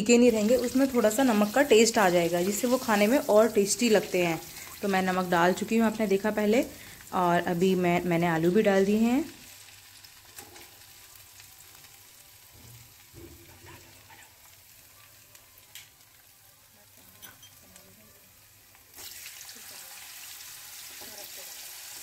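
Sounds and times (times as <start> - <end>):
potatoes sizzling in hot fat: 0.0 - 22.0
sharp frying pops: 0.2 - 22.0.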